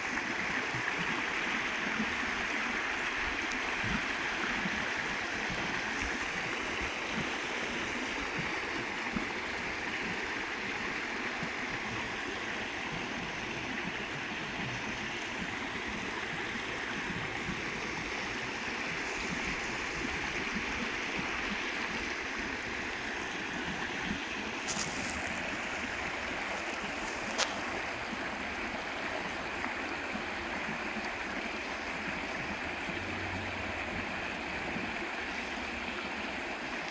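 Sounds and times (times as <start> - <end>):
stream babbling over stones: 0.0 - 36.9.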